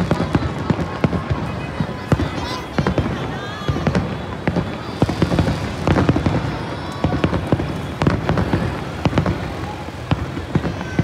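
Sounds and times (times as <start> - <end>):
crackling rumble of fireworks: 0.0 - 11.0
fireworks bangs: 0.0 - 11.0.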